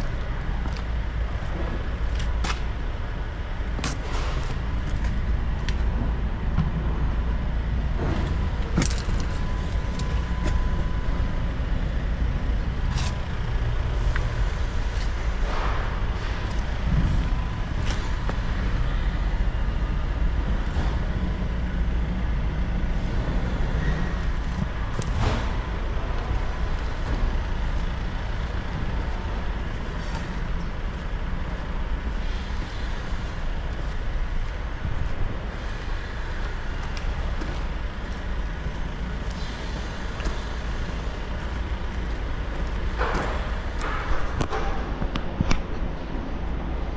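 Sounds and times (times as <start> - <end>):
low mechanical rumble: 0.0 - 46.9.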